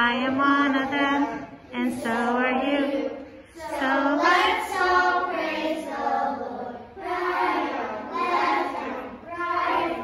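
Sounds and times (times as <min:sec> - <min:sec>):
children singing in unison: 0:00.5 - 0:10.0.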